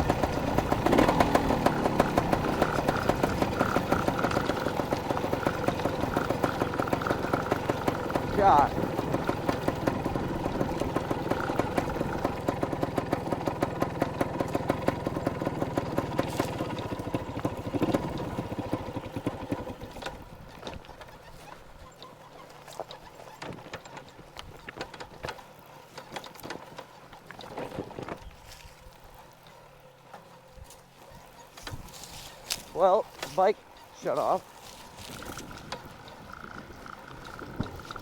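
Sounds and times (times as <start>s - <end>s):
dirtbike engine pulsing: 0.0s - 38.0s.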